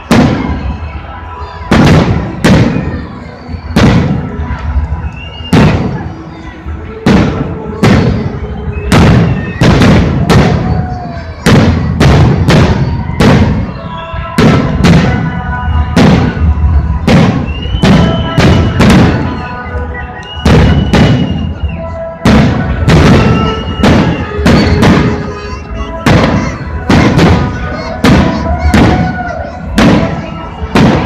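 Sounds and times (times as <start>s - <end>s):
fireworks bangs: 0.0s - 31.0s.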